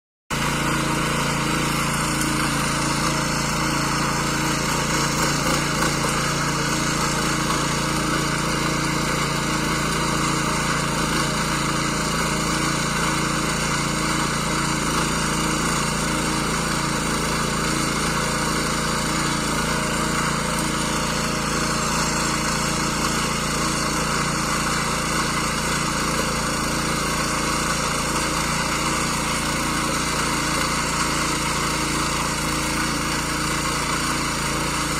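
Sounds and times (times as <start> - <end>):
garden tiller engine running: 0.3 - 34.9.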